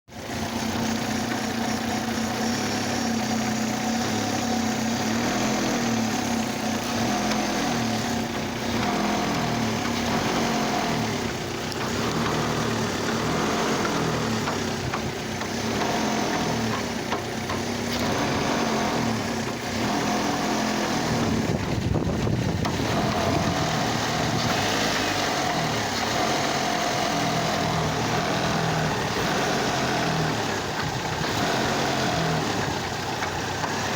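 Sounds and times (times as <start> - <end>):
car engine misfiring: 0.1 - 33.9.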